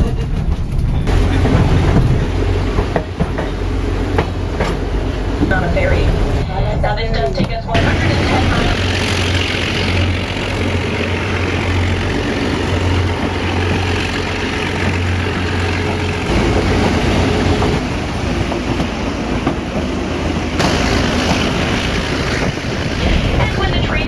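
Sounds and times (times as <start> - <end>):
diesel locomotive rumble: 0.0 - 24.0
train wheels on rails: 0.0 - 24.0.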